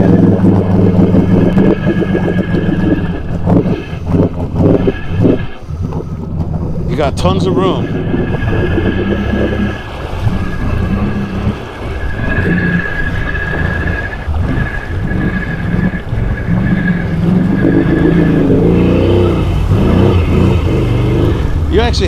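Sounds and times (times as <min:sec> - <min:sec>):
atv engine running under load: 0:00.0 - 0:22.0
steady high whine: 0:00.0 - 0:22.0.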